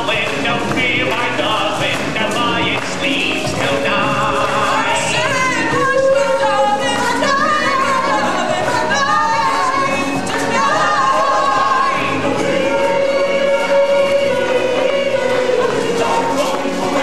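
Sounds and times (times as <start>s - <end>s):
group of voices singing: 0.0s - 17.0s
stage-show music: 0.0s - 17.0s.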